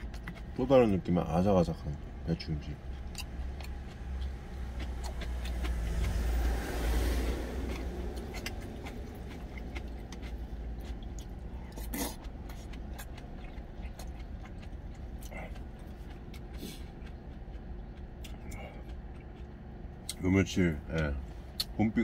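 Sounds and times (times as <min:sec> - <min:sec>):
chewing crisp food: 0:00.0 - 0:22.0
steady low rumble: 0:00.0 - 0:22.0
vehicle passing: 0:02.0 - 0:22.0.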